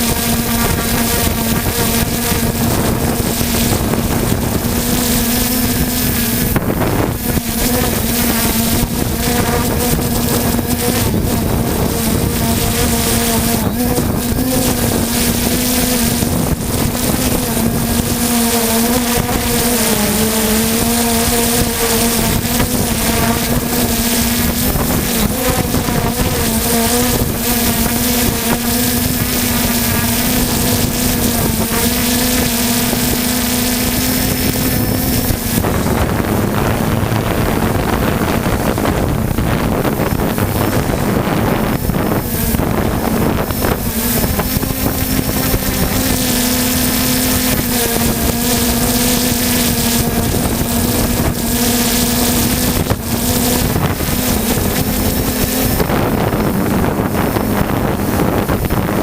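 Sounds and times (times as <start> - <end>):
drone propellers humming: 0.0 - 59.0
wind buffeting microphone: 0.0 - 59.0.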